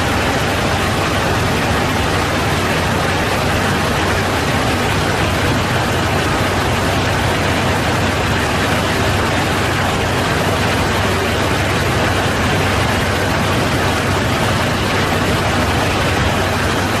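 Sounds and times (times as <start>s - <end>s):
cockpit airflow and engine noise: 0.0s - 17.0s.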